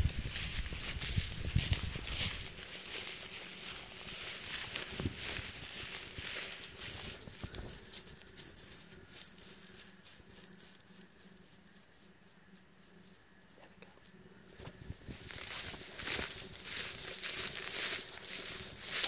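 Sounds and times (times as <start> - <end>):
footsteps rustling through dry grass: 0.0 - 13.3, 14.0 - 19.0.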